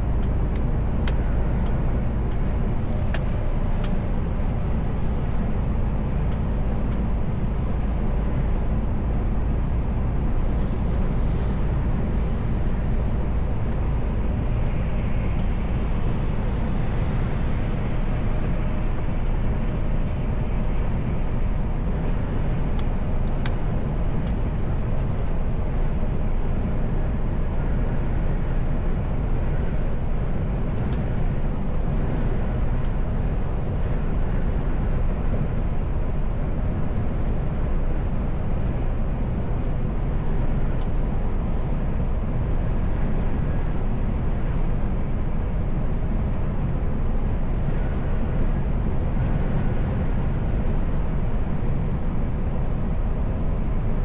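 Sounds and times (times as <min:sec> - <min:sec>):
truck driving on the road: 0:00.0 - 0:54.0.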